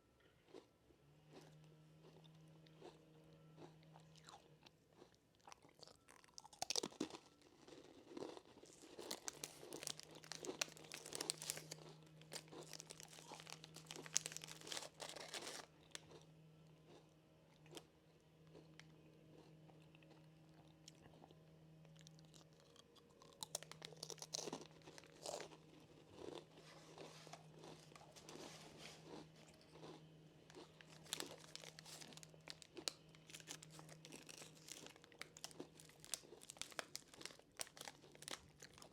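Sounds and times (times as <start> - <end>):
crunching crisp snacks: 0.2 - 38.9.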